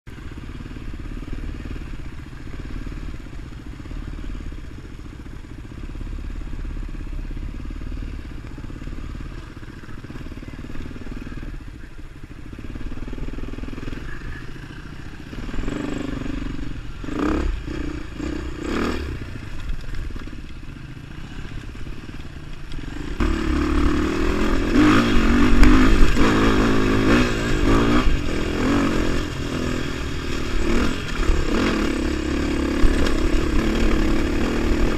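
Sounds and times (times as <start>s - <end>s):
gravel noise under tyres: 0.1s - 34.9s
motorcycle engine running: 0.1s - 34.9s.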